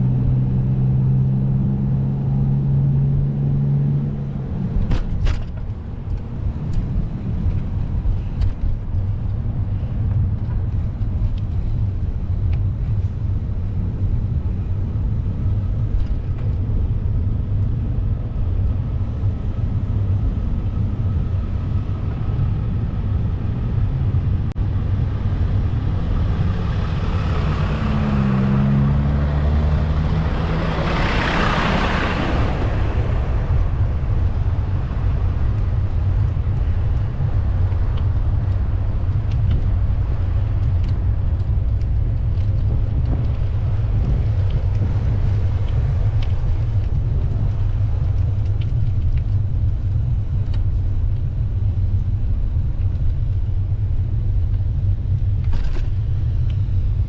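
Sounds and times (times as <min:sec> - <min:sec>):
road traffic rumble: 0:00.0 - 0:57.0
vehicle engine humming: 0:00.0 - 0:57.0
wind: 0:00.0 - 0:57.0.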